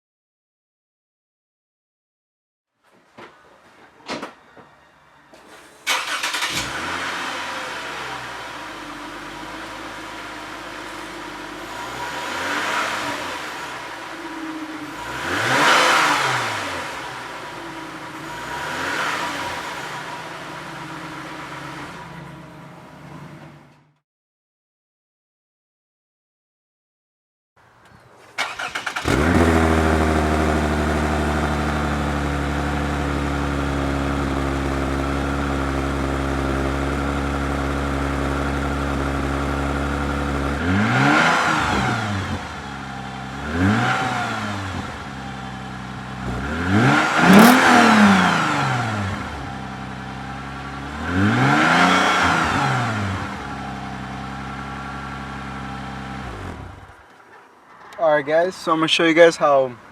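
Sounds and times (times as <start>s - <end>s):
car engine starting: 4.4s - 24.0s, 28.2s - 59.8s
car engine idling and revving: 5.3s - 24.0s, 28.4s - 58.0s.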